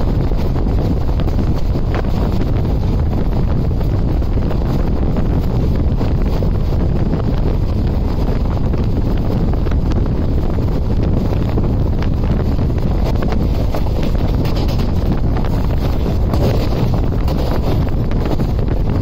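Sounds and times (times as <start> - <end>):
train wheels rumbling on track: 0.0 - 19.0
wind blowing on microphone: 0.0 - 19.0.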